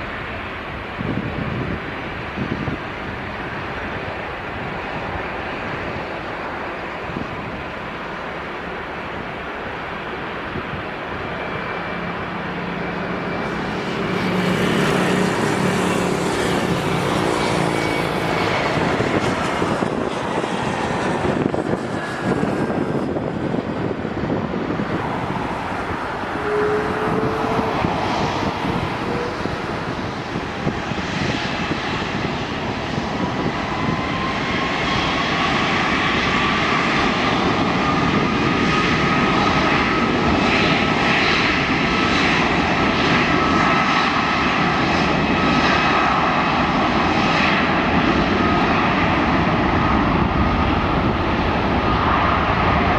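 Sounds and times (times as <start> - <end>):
jet engines rushing: 0.0 - 52.9.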